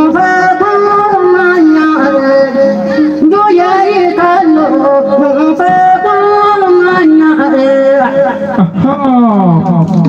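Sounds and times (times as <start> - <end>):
woman singing: 0.0 - 8.4.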